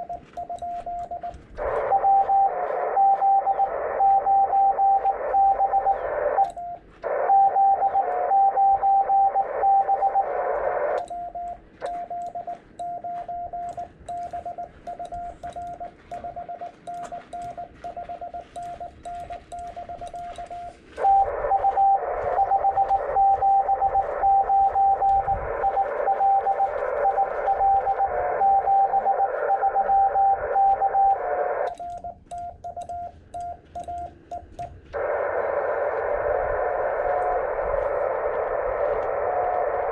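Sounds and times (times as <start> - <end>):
lower-pitched morse sidetone: 0.0 - 39.9
morse code tone: 0.0 - 39.9
receiver hiss: 0.0 - 39.9.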